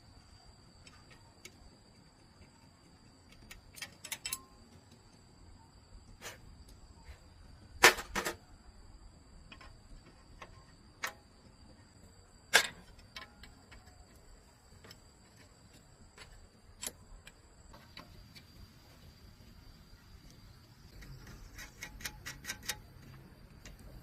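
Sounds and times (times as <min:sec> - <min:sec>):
hand tools and metal parts knocking: 0:00.7 - 0:05.4, 0:09.4 - 0:24.0.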